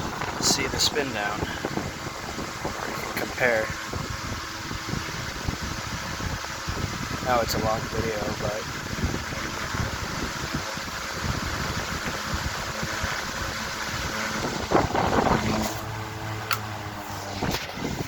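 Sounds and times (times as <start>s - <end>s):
electric fans running: 0.0s - 18.0s
faint motor hum: 0.0s - 18.0s.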